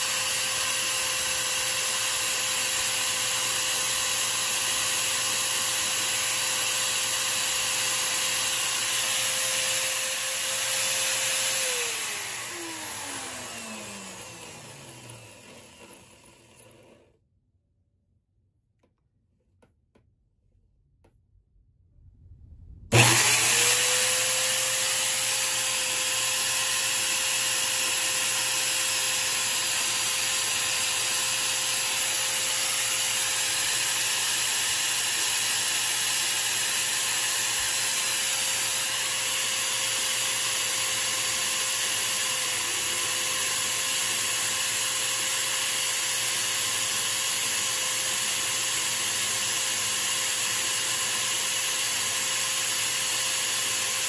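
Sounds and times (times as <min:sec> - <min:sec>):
electric drill motor whining: 0:00.0 - 0:17.1, 0:22.9 - 0:54.0.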